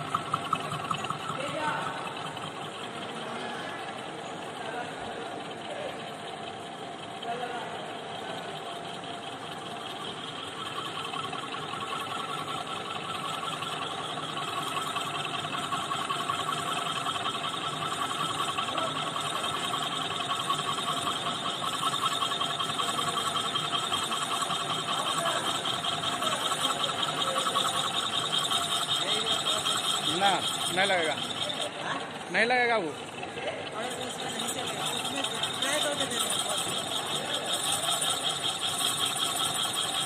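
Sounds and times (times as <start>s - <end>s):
machine tool cutting metal: 0.0s - 40.0s.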